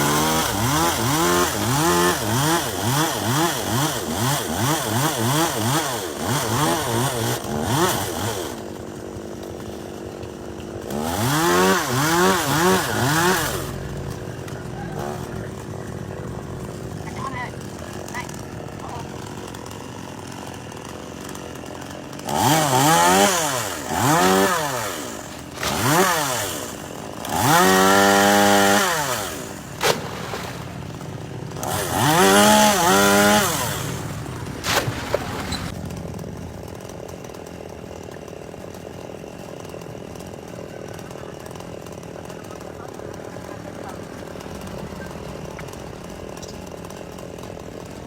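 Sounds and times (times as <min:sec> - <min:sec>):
chainsaw revving: 0:00.0 - 0:48.0.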